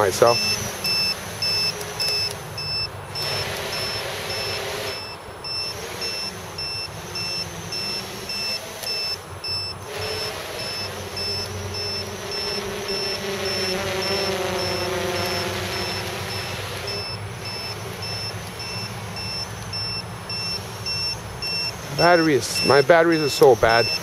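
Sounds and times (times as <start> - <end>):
electronic beeper tones: 0.0 - 24.0
quadcopter propellers buzzing: 0.0 - 24.0.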